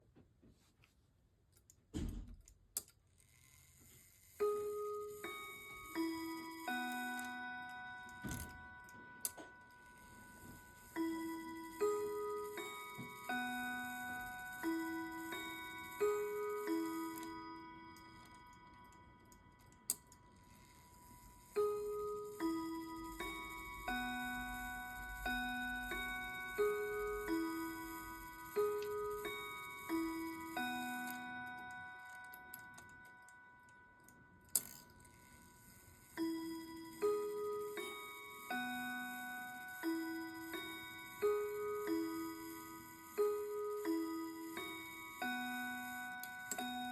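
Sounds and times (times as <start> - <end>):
clock chime notes ringing: 4.4 - 46.9.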